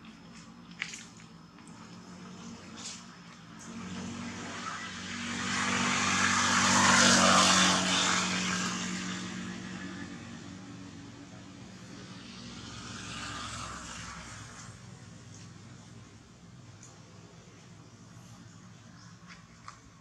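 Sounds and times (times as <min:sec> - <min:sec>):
engine passing by: 0:00.0 - 0:20.0.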